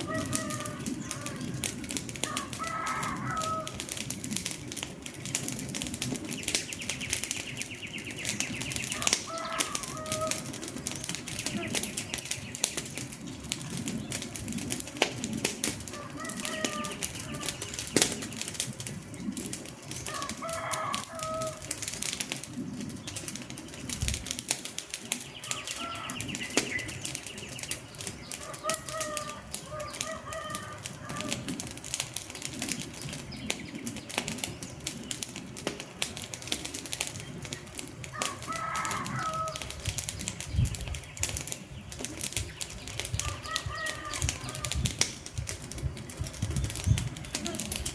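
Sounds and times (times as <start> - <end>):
wood fire crackling and popping: 0.0 - 47.9.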